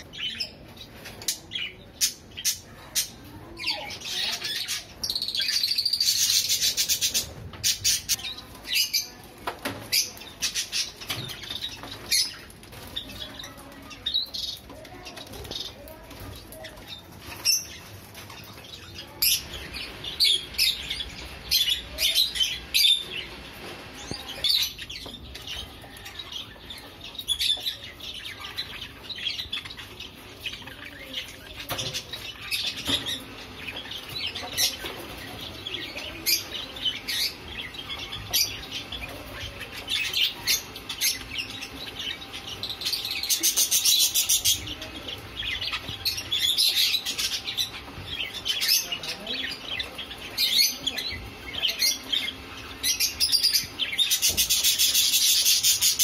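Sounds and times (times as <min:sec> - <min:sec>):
parakeets chirping and chattering: 0:00.0 - 0:56.0.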